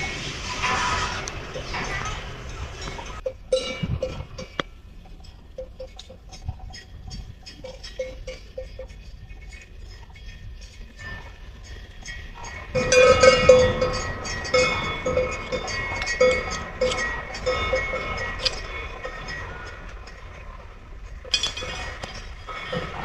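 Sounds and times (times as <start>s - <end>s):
cowbells clanking: 0.0s - 23.0s.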